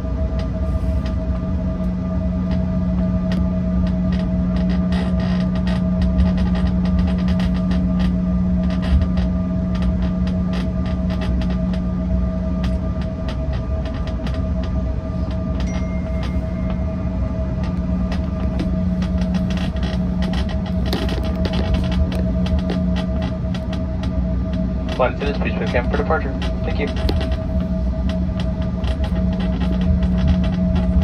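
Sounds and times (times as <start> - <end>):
constant tone: 0.0 - 31.0
jet engines humming: 0.0 - 31.0
cabin clicks and creaks: 0.3 - 31.0
landing gear rumble: 1.1 - 31.0.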